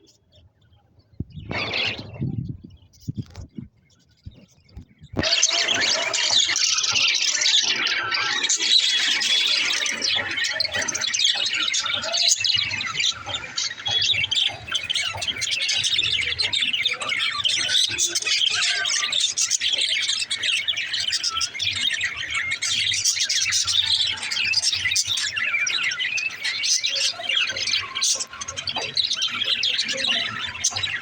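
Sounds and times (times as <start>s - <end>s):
budgerigars chattering: 4.2s - 31.0s.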